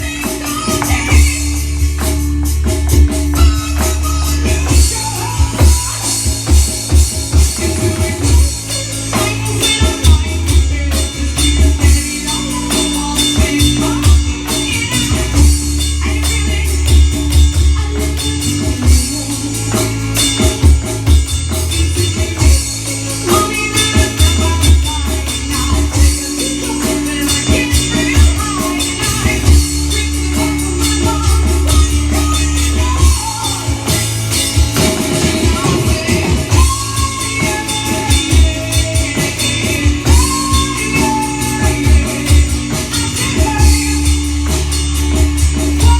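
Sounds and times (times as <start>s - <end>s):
drum kit playing: 0.0s - 45.9s
recorded rock song with singing: 0.0s - 45.9s.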